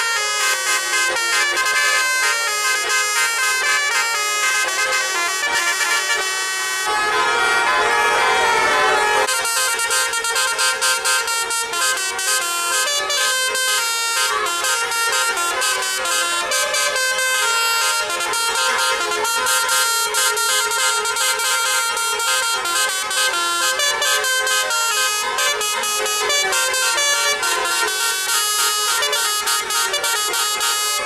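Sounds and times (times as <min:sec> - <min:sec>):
musical air horn melody: 0:00.0 - 0:31.0.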